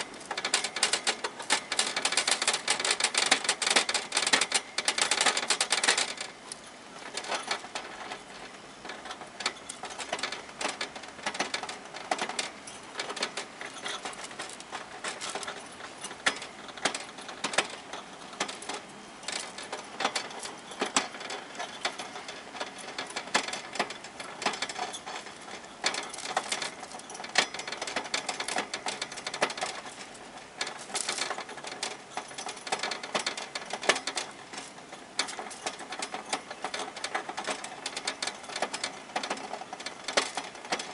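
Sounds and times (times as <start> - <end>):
hamster gnawing wire bars: 0.0 - 40.9.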